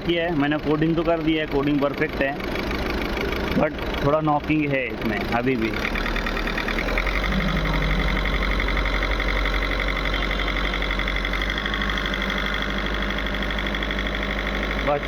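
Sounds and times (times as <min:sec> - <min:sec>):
diesel engine running: 0:00.0 - 0:15.0
engine knock: 0:00.0 - 0:15.0.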